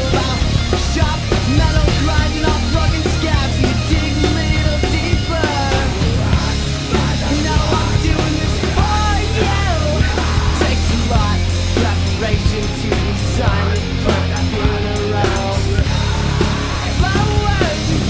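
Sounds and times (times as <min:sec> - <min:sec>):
band playing punk rock: 0:00.0 - 0:18.0.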